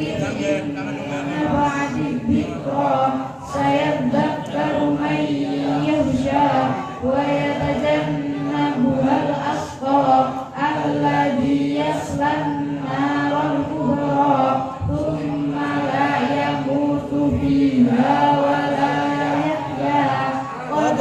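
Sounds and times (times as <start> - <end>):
girls chanting through microphone: 0.0 - 21.0.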